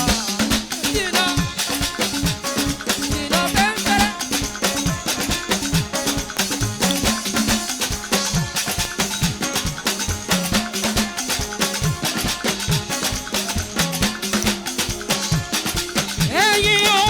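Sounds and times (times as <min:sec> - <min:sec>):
live band playing upbeat instrumental: 0:00.0 - 0:17.0
shakers and drums: 0:00.0 - 0:17.0.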